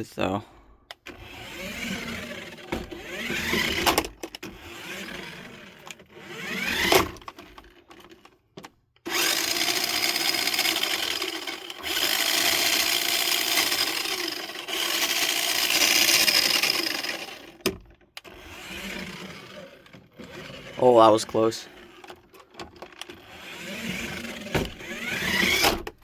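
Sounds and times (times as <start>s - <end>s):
toy car electric motor whirring: 1.0s - 8.4s, 9.0s - 26.0s.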